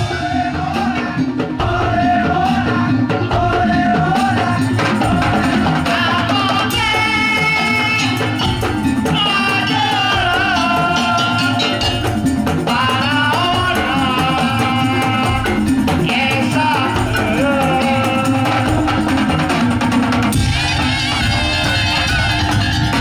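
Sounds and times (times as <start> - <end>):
live percussion music: 0.0 - 23.0
wavering melody line: 2.8 - 23.0.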